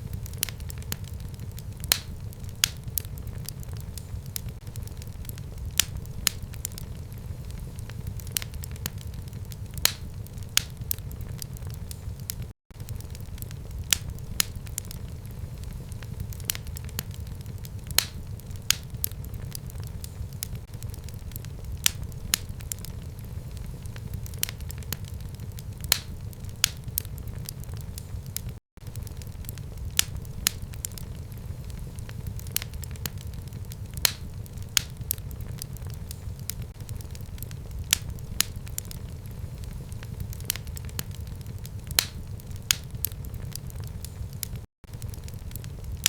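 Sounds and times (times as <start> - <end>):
fire crackling and popping: 0.0 - 46.0
low rumble of flames: 0.0 - 46.0.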